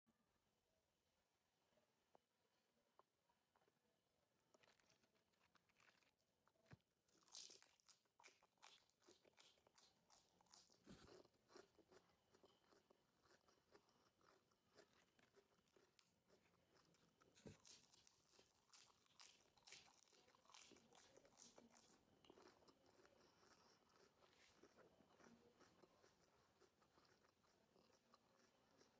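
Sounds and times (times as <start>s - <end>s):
lettuce crunching being chewed: 4.4s - 28.9s.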